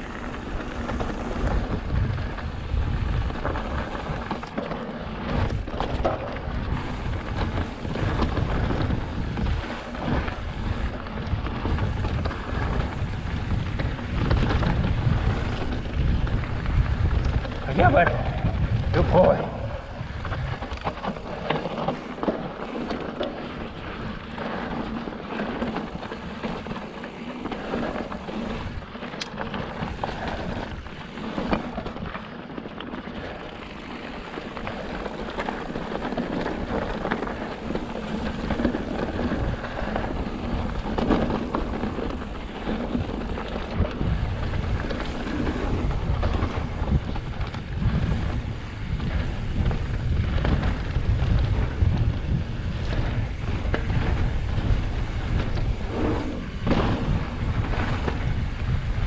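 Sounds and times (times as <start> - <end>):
bike rattling: 0.0 - 59.0
tyres crunching over gravel: 0.0 - 59.0
wind buffeting microphone: 0.0 - 59.0.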